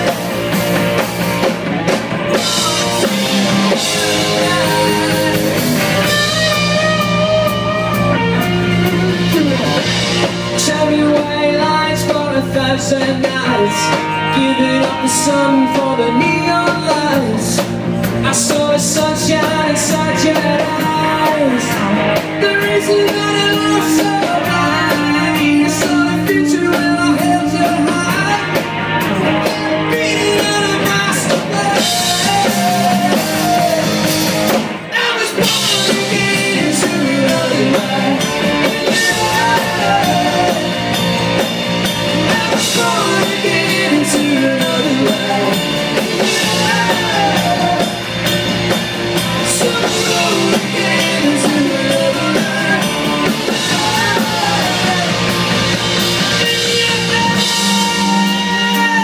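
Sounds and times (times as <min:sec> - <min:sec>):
drum kit: 0:00.0 - 0:59.0
electric guitar: 0:00.0 - 0:59.0
person singing: 0:02.3 - 0:34.2, 0:34.9 - 0:59.0.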